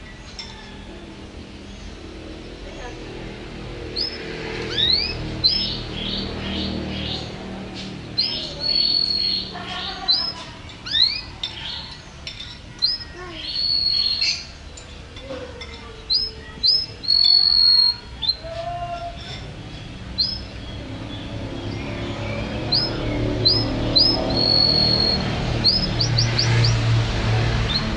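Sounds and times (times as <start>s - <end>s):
canary singing high chirps: 3.7s - 27.9s.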